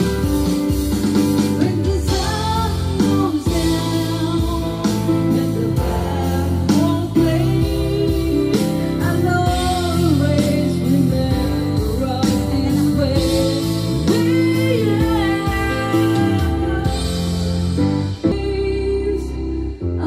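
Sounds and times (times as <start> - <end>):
instrumental backing track: 0.0 - 20.0
person singing into a microphone: 1.2 - 20.0.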